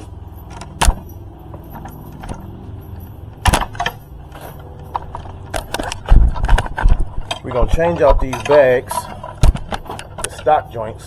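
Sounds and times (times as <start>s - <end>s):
hard objects clicking and knocking: 0.0s - 10.7s
steady low hum: 0.0s - 11.0s.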